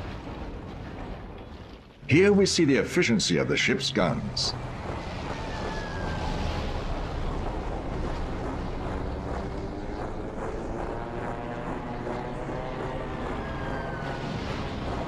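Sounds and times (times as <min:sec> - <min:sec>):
propeller aircraft engine droning: 0:00.0 - 0:15.0
steady rush of noise: 0:00.0 - 0:15.0.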